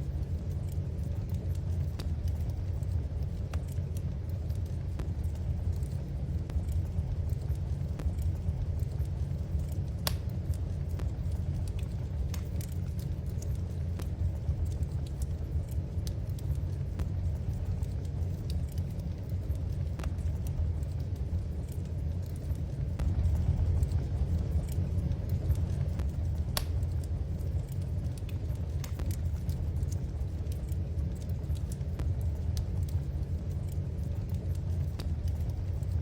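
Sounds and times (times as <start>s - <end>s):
low rumble: 0.0s - 36.0s
wood fire crackling: 0.0s - 36.0s.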